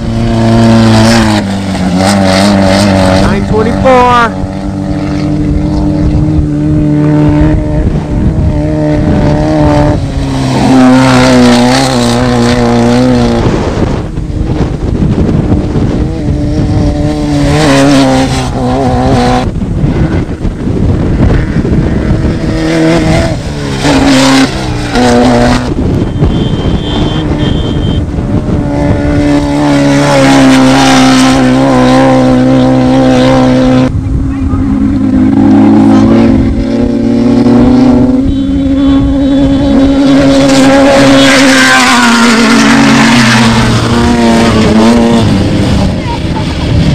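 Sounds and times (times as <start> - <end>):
race vehicle engines running hard: 0.0 - 46.9.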